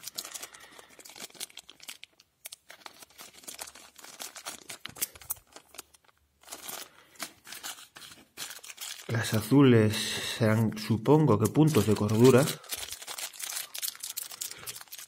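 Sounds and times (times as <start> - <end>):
plastic bags crinkling: 0.0 - 9.6, 11.3 - 15.0.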